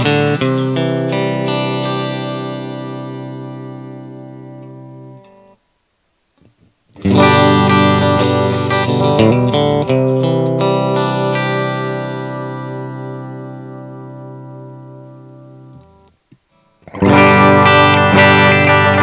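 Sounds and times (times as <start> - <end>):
electric guitar through amp: 0.0 - 5.6, 6.4 - 19.0.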